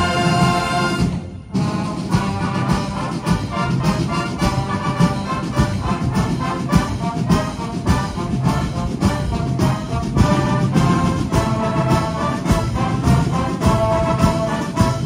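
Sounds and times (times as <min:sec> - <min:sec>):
military marching band: 0:00.0 - 0:15.0.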